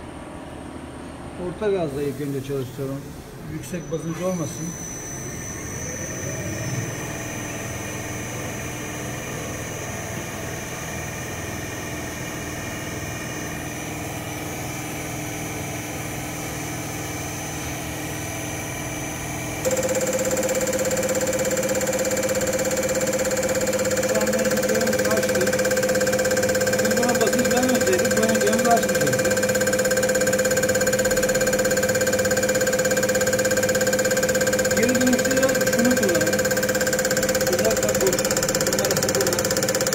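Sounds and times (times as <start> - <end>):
test bench mechanical hum: 0.0 - 39.9
injector whine with rapid ticking: 1.4 - 39.9.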